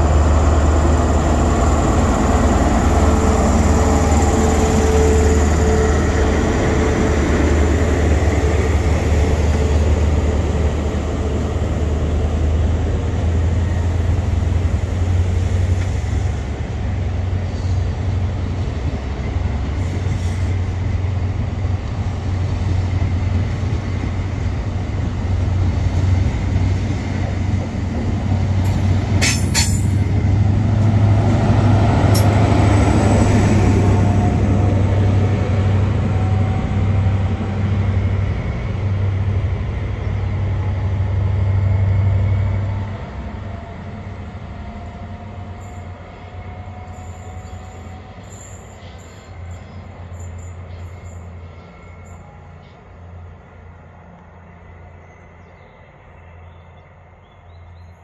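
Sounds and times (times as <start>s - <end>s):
train wheels rolling: 0.0s - 52.9s
diesel train engines humming: 0.0s - 58.0s.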